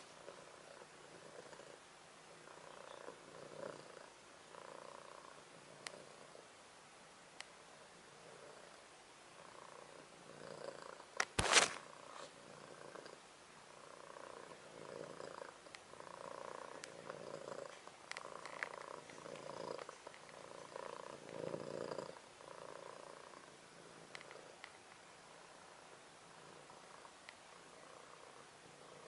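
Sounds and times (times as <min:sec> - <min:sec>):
kitten purring: 0:00.0 - 0:06.5, 0:09.4 - 0:29.0.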